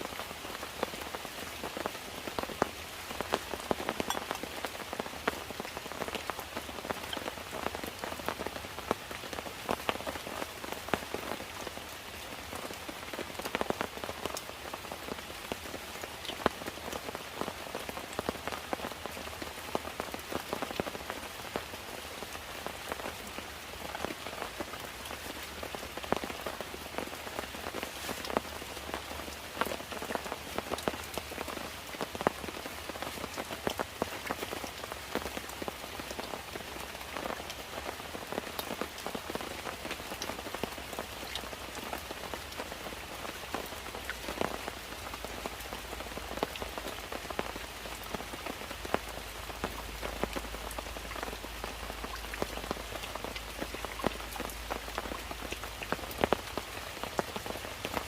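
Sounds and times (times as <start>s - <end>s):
rain drops tapping: 0.0s - 58.0s
steady rain hiss: 0.0s - 58.0s.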